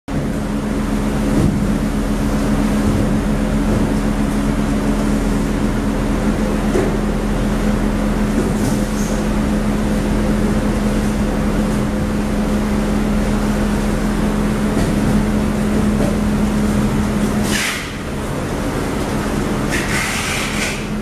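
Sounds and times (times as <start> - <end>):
cooling fans whirring: 0.1 - 21.0.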